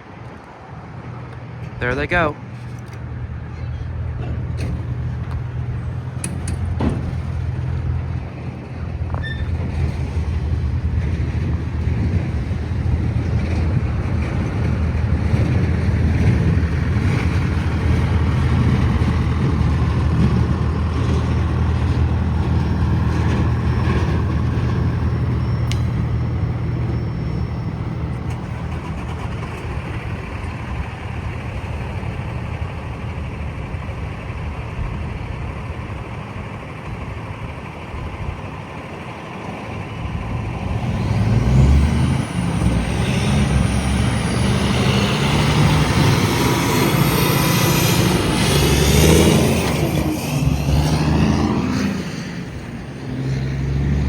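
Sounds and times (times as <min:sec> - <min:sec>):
vehicle engines humming: 0:00.0 - 0:54.0.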